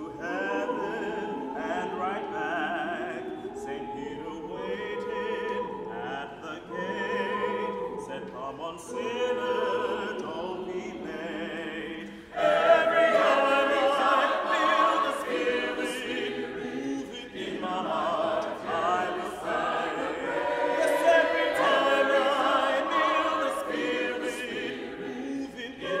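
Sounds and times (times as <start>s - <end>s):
church choir singing: 0.0s - 26.0s.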